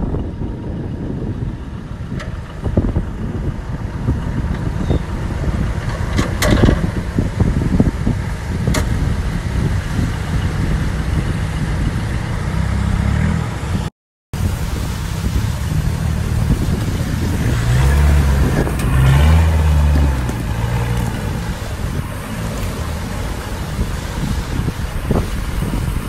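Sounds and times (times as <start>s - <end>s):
diesel engine revving under load: 0.0s - 26.0s.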